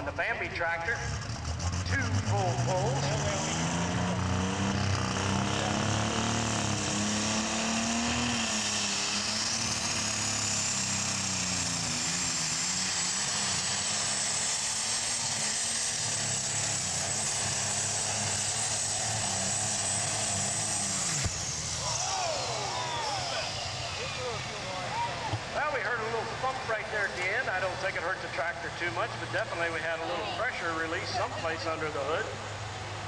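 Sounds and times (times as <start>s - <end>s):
high turbo whine: 0.0s - 33.0s
tractor engine running flat out: 0.0s - 33.0s.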